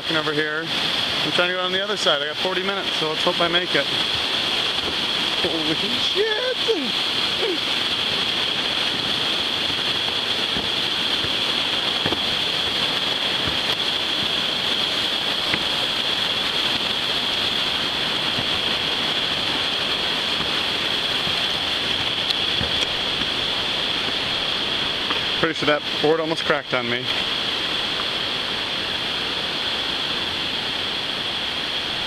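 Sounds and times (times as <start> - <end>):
river rapids rushing: 0.0 - 32.0.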